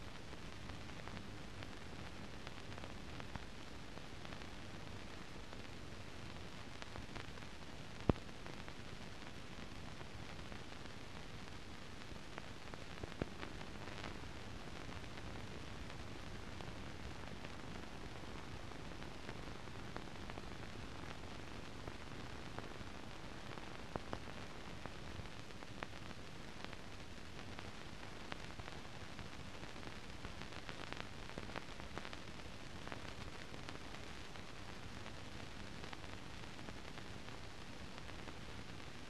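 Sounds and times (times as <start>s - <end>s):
film hiss with crackles: 0.0s - 39.0s.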